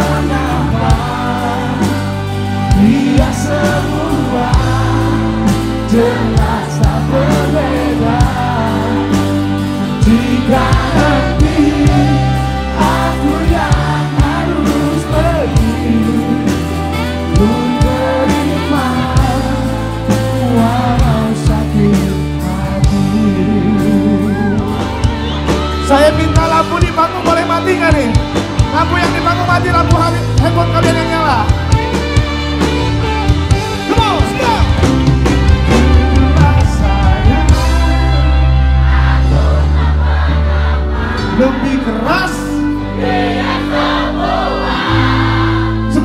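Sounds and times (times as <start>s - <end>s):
audience singing along: 0.0s - 25.9s, 31.6s - 46.0s
live pop band with singing: 0.0s - 46.0s.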